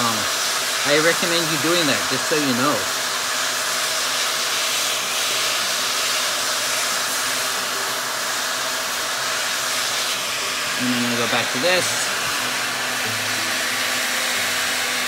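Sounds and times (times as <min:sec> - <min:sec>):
heat gun blowing hot air: 0:00.0 - 0:15.0
faint motor hum: 0:01.4 - 0:15.0.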